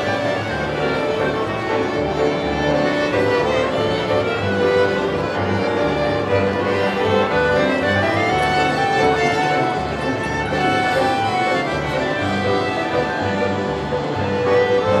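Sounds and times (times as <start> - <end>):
accordion: 0.0 - 15.0
clarinet: 0.0 - 15.0
piano: 0.0 - 15.0
violin melody: 0.0 - 15.0
double bass: 0.3 - 15.0.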